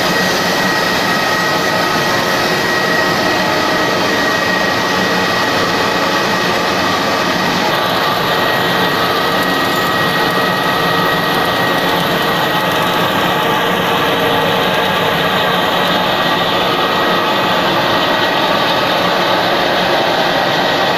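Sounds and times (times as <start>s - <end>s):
machine noise with high whine: 0.0s - 20.9s.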